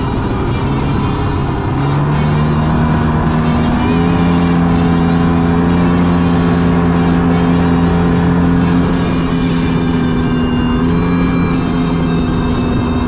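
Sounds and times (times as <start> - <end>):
music playing: 0.0 - 13.0
snowmobile engine running: 0.0 - 13.0.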